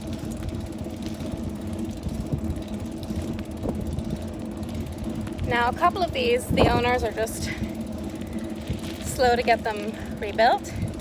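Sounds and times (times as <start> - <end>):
steady low hum: 0.0 - 11.0
wind rumbling on microphone: 0.0 - 11.0.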